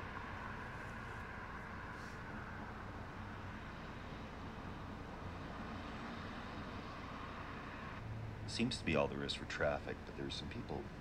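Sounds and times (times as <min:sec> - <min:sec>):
rumble of passing cars: 0:00.0 - 0:11.0.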